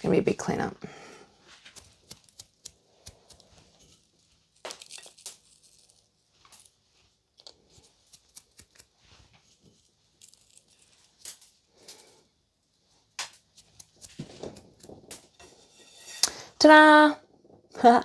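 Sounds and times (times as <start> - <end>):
small objects clicking and rustling: 1.6 - 16.4.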